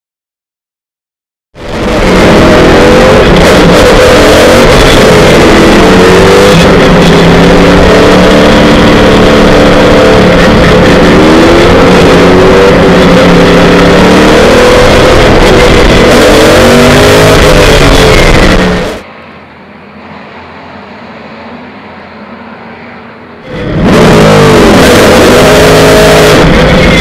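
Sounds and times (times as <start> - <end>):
racing engine at full throttle: 1.6 - 27.0
wind and road rush: 1.6 - 27.0.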